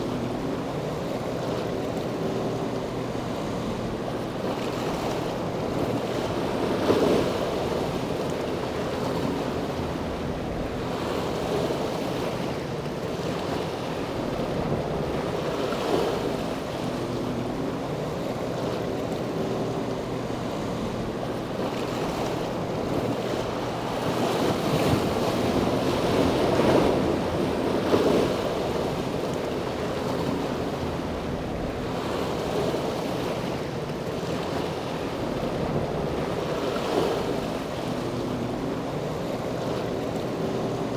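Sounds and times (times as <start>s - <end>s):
faint boat engine hum: 0.0s - 40.9s.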